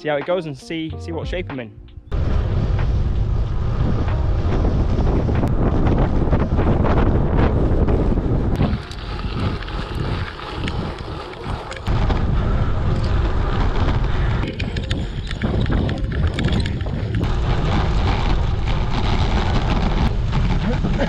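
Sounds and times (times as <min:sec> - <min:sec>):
wind buffeting microphone: 0:02.0 - 0:21.0.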